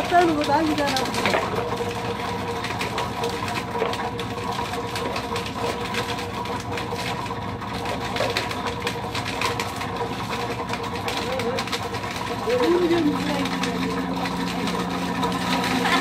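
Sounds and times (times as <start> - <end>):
chestnuts rattling in drum: 0.0 - 16.0
machine motor hum: 0.0 - 16.0.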